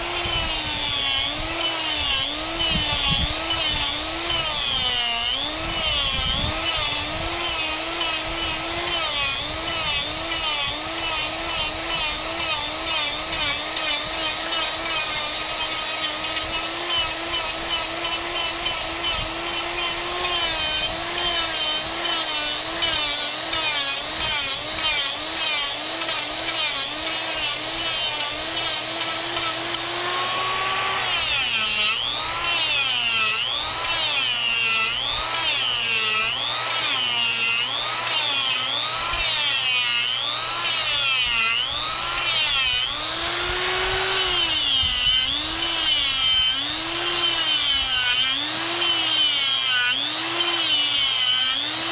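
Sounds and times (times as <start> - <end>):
die grinder whining carving wood: 0.0 - 51.9.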